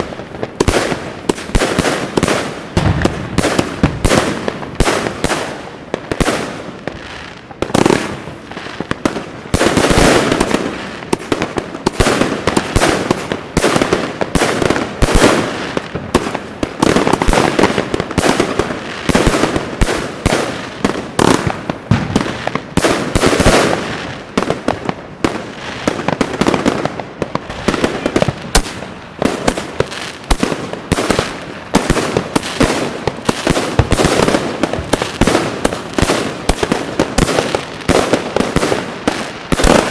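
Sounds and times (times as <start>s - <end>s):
fireworks shots bursting: 0.0s - 39.9s.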